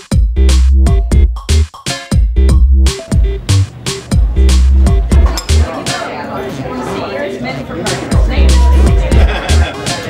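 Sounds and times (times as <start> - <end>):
electronic music with heavy bass: 0.0 - 6.0, 7.9 - 10.0.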